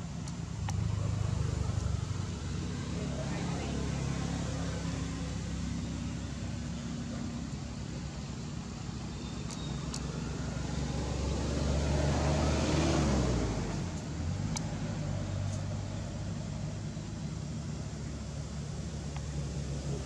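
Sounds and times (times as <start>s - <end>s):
passing vehicle engine hum: 0.0s - 20.0s.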